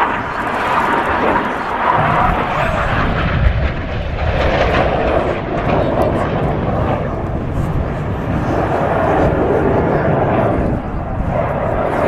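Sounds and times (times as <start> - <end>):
jet roaring past: 0.0 - 12.0.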